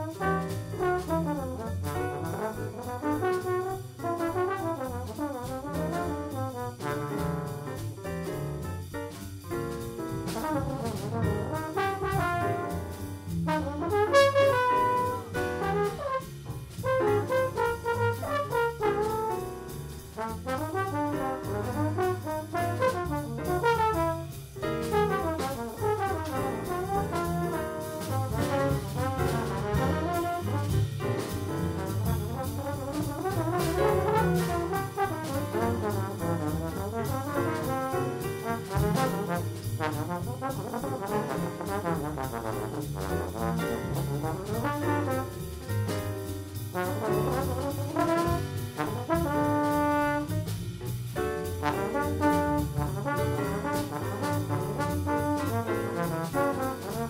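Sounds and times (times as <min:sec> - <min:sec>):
trombone solo: 0:00.0 - 0:07.6, 0:10.2 - 0:46.0, 0:46.7 - 0:50.6, 0:51.4 - 0:57.0
drums: 0:00.0 - 0:57.0
piano: 0:00.0 - 0:57.0
plucked upright bass: 0:00.2 - 0:57.0.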